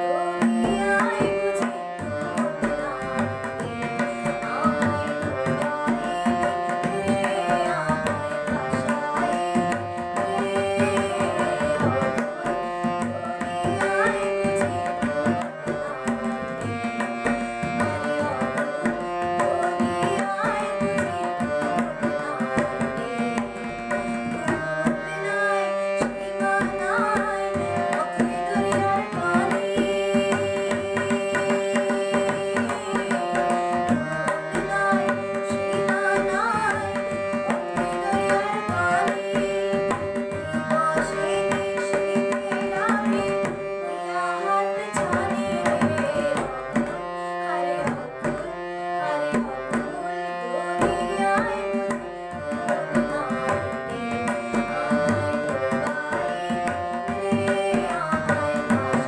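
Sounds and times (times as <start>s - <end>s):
girl singing: 0.0s - 59.0s
harmonium: 0.0s - 59.0s
tabla rhythm: 0.0s - 59.0s.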